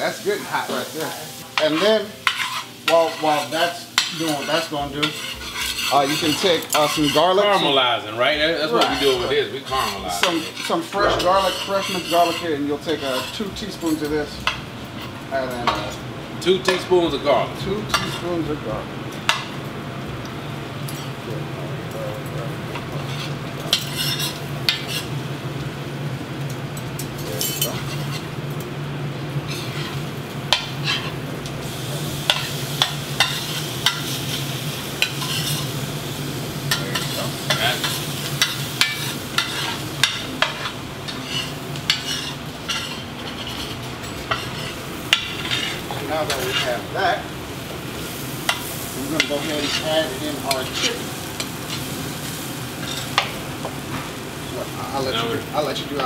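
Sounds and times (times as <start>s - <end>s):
onions sizzling in a pan: 0.0s - 56.0s.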